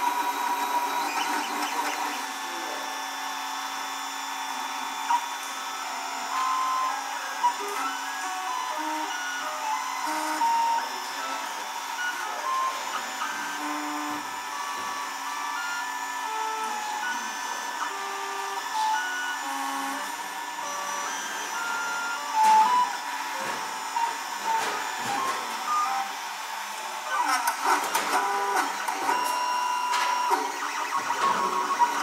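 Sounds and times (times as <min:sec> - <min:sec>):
stepper motor tones: 0:00.0 - 0:32.0.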